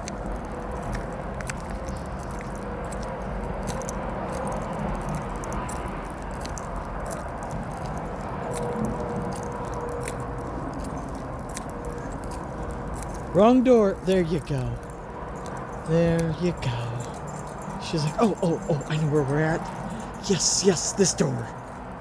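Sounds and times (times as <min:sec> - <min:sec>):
light ticks: 0:00.0 - 0:21.8.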